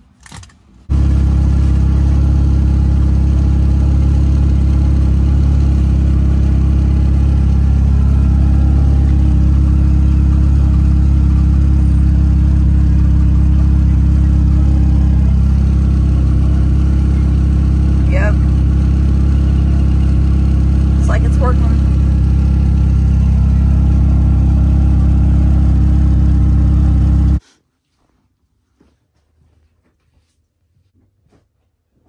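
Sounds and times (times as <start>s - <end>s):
car engine idling: 0.8s - 27.4s.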